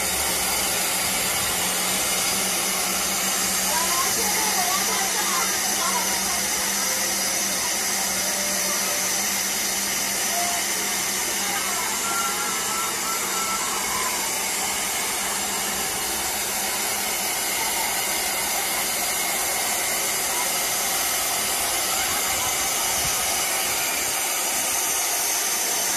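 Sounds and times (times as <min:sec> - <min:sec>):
loud hiss of escaping steam: 0:00.0 - 0:25.9.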